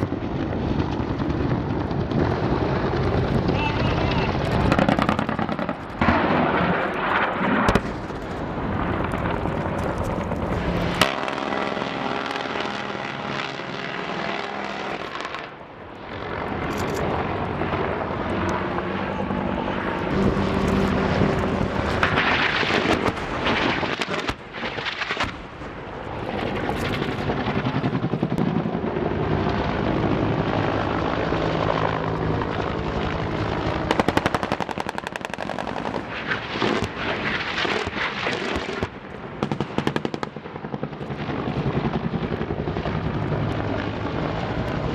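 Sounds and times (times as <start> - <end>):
helicopter rotor and turbine: 0.0 - 44.9.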